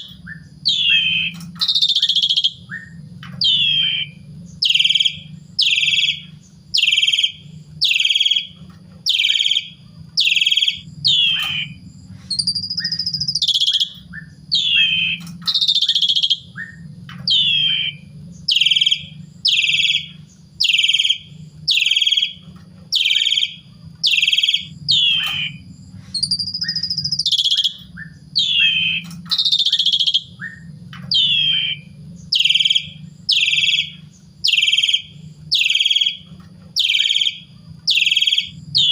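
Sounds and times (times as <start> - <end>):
starling singing: 0.0 - 38.9
steady low hum: 0.0 - 38.9.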